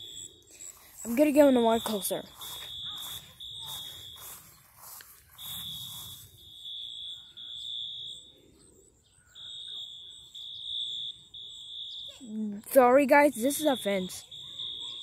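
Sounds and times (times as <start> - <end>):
fire alarm beeping: 0.0 - 15.0.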